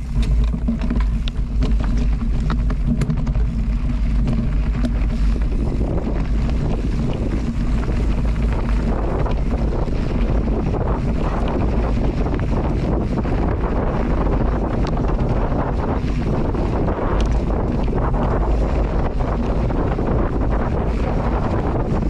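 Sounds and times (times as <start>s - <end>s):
sharp clicks and rattles: 0.0s - 22.0s
wind buffeting microphone: 0.0s - 22.0s.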